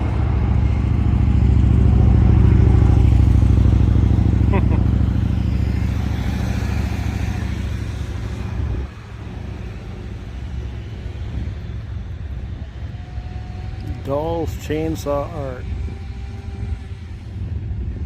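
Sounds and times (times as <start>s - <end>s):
motorcycle engine rumble: 0.0s - 18.0s.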